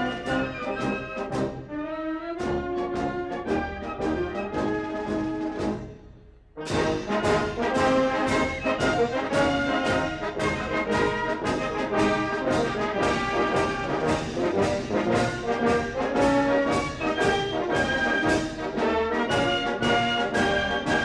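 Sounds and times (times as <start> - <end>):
brass band playing a march: 0.0 - 21.0
drum strokes: 2.4 - 21.0.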